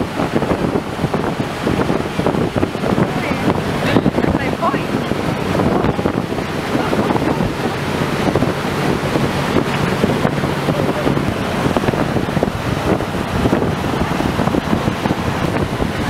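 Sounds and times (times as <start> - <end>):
boat wake rushing: 0.0 - 16.0
low engine hum: 0.0 - 16.0
wind buffeting microphone: 0.0 - 16.0.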